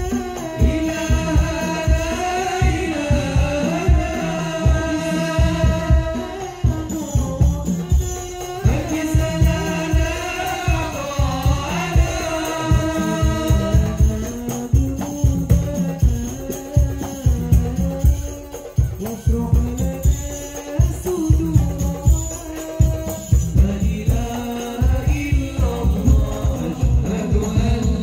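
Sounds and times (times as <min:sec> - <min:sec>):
drum beat with jingling slaps: 0:00.0 - 0:28.0
person singing: 0:00.0 - 0:28.0.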